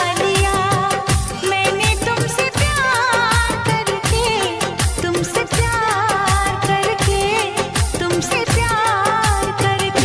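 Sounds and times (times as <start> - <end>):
song with deep kick drums: 0.1 - 10.0.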